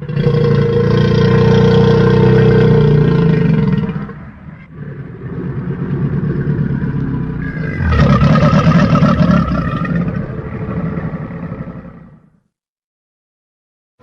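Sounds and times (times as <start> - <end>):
deep creature growl: 0.0 - 12.4.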